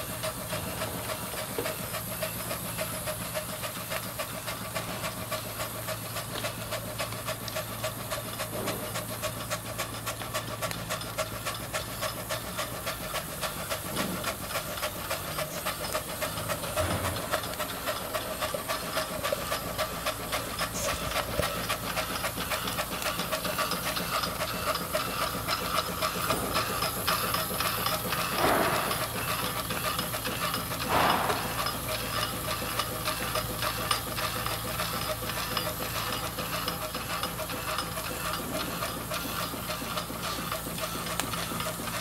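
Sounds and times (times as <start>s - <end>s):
fast mechanical ticking: 0.0s - 42.0s
steam hissing: 0.0s - 42.0s.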